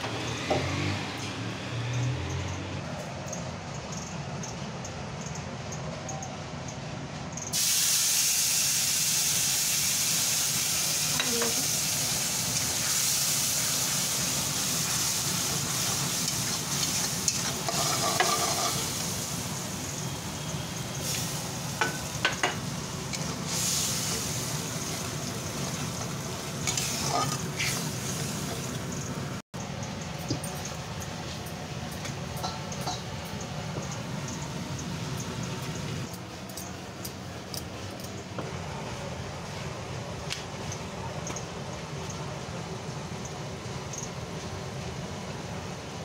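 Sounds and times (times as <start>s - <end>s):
food frying in hot oil: 7.5s - 46.0s.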